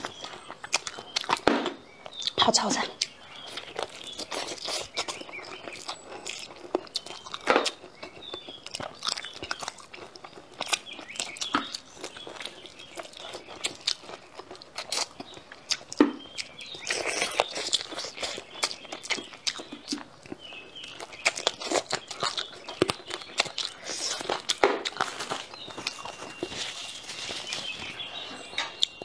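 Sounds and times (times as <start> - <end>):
chewing mouth sounds: 0.0 - 29.0.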